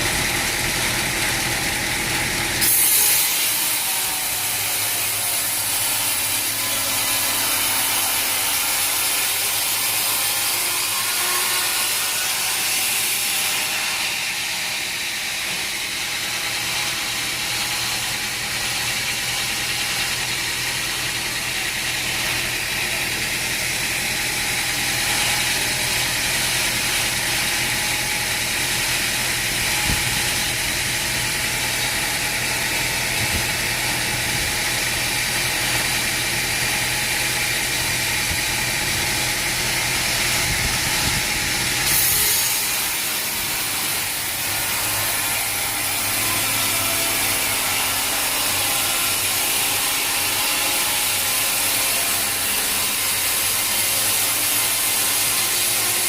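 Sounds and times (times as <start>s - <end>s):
sawmill machinery hiss: 0.0s - 56.0s.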